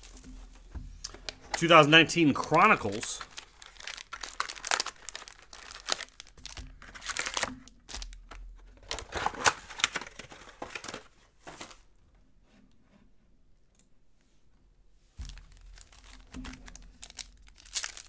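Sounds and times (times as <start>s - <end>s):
foil packs crinkling: 0.0s - 11.9s, 15.2s - 18.0s.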